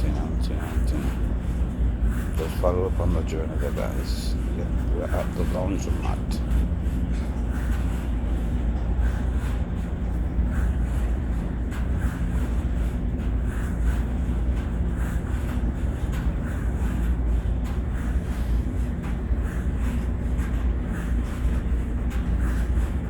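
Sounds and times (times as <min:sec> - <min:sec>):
tumble dryers rumbling: 0:00.0 - 0:23.0.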